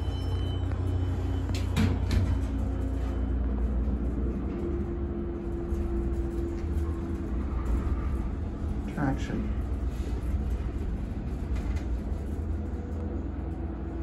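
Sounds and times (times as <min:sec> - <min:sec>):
elevator low rumble: 0:00.0 - 0:14.0
steady hum: 0:00.0 - 0:14.0.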